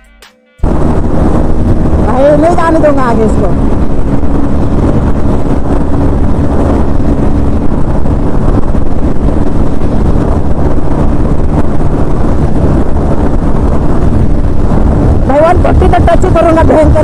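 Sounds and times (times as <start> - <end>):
motorcycle engine at speed: 0.0 - 17.0
wind on microphone: 0.6 - 17.0.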